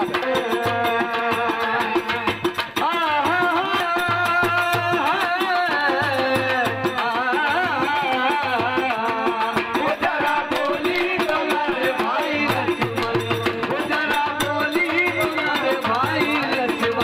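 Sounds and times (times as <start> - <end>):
hand drum beat: 0.0 - 17.0
man singing into a microphone: 0.0 - 17.0.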